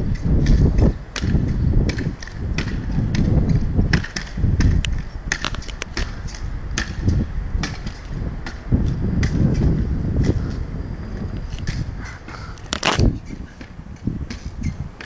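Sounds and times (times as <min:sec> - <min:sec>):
spring stilts clacking on paving: 0:00.0 - 0:10.6, 0:11.2 - 0:15.0
steady low rumble: 0:00.0 - 0:15.0.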